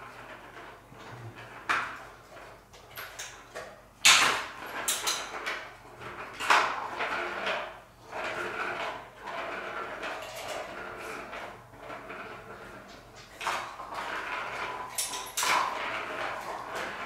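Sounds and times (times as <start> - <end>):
ball rolling in plastic track: 0.0 - 17.0.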